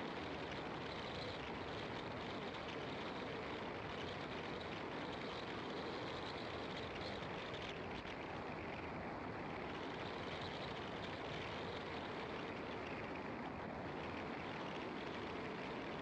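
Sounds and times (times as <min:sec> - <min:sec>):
car tyres and engine hum: 0:00.0 - 0:16.0.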